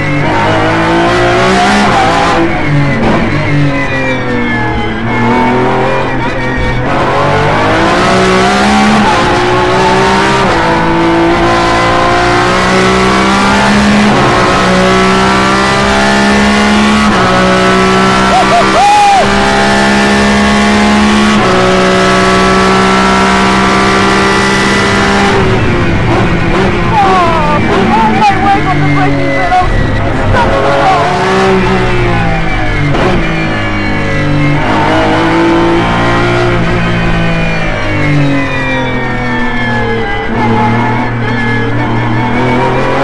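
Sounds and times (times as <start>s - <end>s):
car engine accelerating through upshifts: 0.0s - 43.0s.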